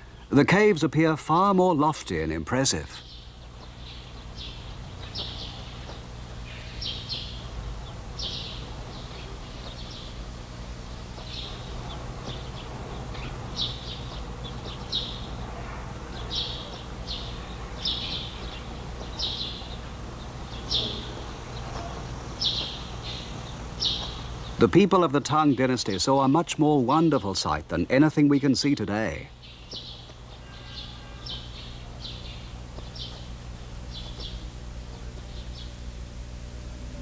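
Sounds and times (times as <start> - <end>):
steady low hum: 0.0 - 37.0
small bird chirping: 3.0 - 26.3, 28.2 - 36.1.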